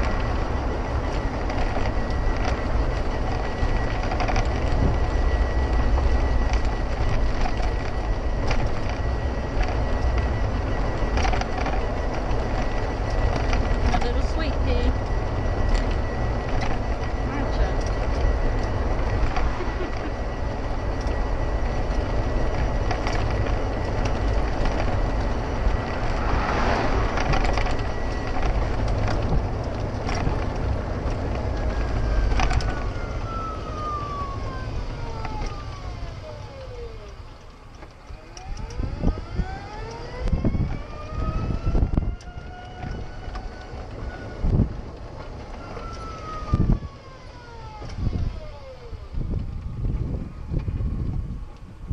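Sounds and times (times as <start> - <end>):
wind and wheel rumble: 0.0 - 51.9
wind buffeting microphone: 0.0 - 51.9.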